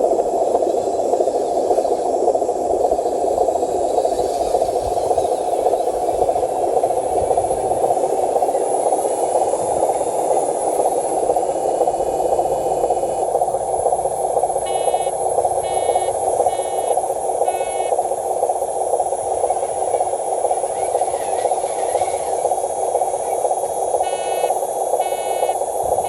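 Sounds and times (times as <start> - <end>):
electric motor and gearbox whine: 0.8 - 26.0.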